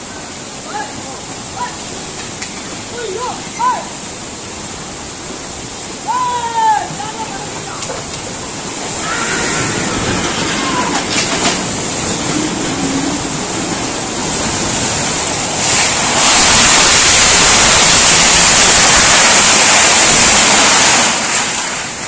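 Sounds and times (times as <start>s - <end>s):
heavy rain: 0.0s - 22.0s
strong wind gusts: 0.3s - 22.0s.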